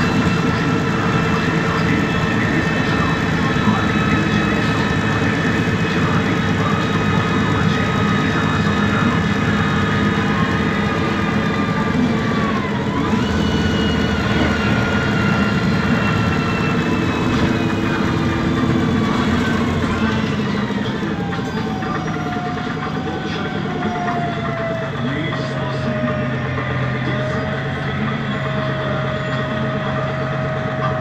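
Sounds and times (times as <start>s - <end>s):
bus engine low drone: 0.0s - 31.0s
gearbox whines: 0.0s - 31.0s.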